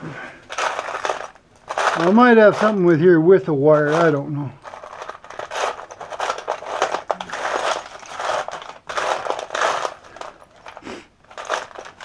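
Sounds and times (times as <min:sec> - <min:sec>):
small parts rattling in container: 0:00.4 - 0:03.1, 0:03.7 - 0:12.0.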